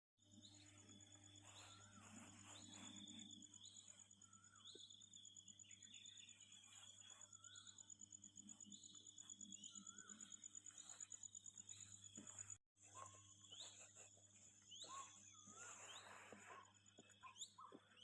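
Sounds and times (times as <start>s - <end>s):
birds chirping: 0.2s - 18.0s
insects trilling: 0.4s - 18.0s.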